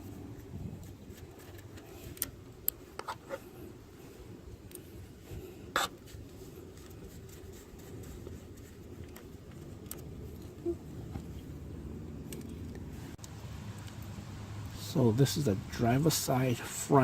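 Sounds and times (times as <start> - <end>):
low background rumble: 0.0 - 16.8.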